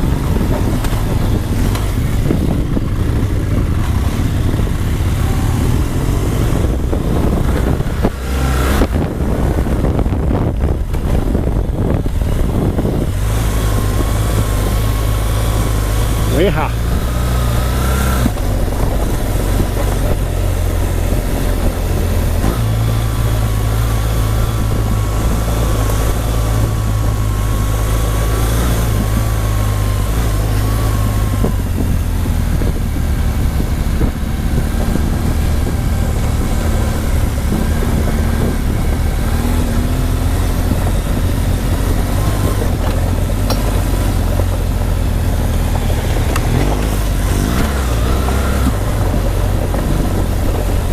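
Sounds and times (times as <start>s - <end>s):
motorcycle engine running: 0.0s - 50.9s
wind rush: 0.0s - 50.9s.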